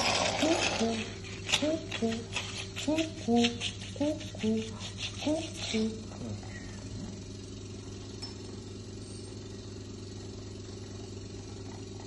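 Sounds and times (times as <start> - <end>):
electric suction pump humming: 0.0 - 12.0.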